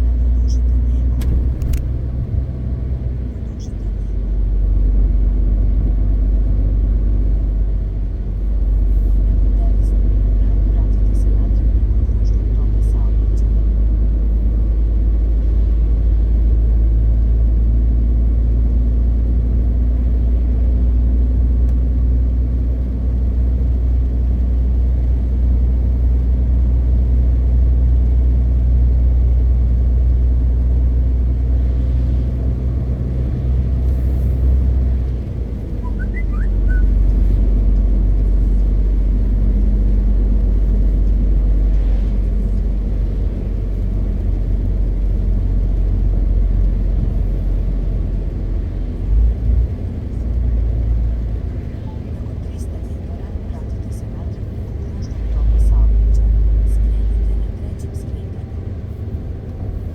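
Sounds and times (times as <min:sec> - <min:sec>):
truck engine droning: 0:00.0 - 0:59.9.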